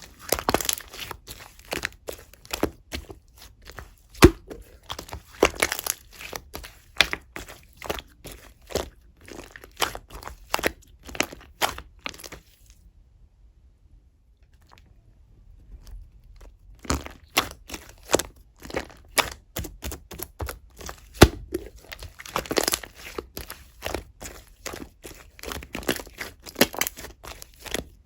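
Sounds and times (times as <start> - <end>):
slime crackling and popping: 0.0 - 12.3, 16.8 - 28.0.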